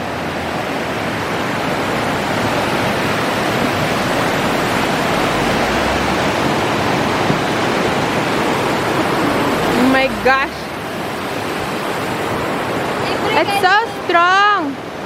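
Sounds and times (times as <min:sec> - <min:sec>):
river current rushing: 0:00.0 - 0:15.0.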